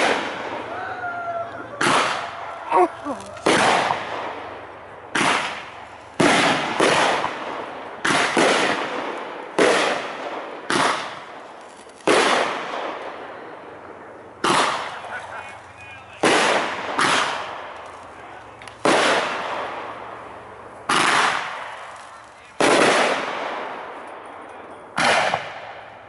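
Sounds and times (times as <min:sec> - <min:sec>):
fireworks bursting with echo: 0:00.0 - 0:26.0.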